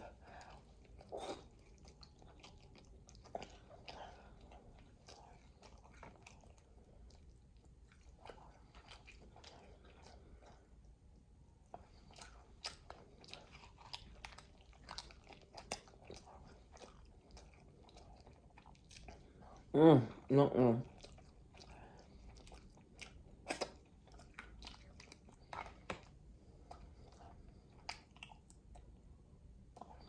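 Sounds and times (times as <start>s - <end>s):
chewing and biting crab: 0.0s - 10.8s, 11.7s - 19.7s, 20.8s - 28.9s.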